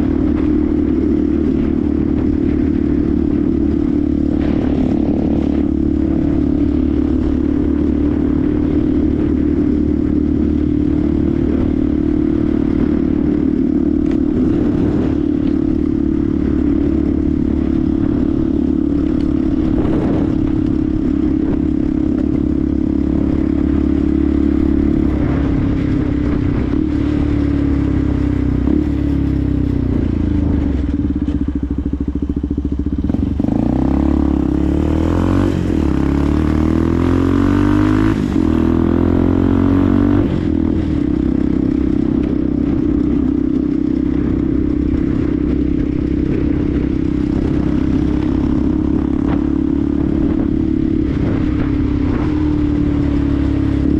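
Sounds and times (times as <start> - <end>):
motorbike engine cruising: 0.0 - 53.9
wind noise: 0.0 - 53.9.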